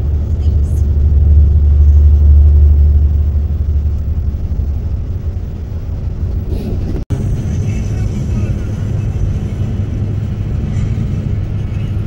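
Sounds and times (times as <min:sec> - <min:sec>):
vehicle road and wind noise: 0:00.0 - 0:12.0.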